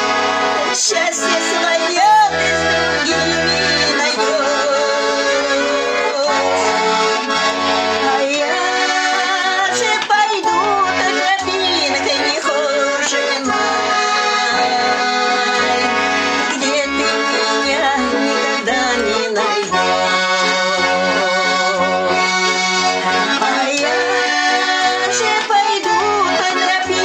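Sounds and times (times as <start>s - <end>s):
button accordion playing: 0.0s - 27.0s.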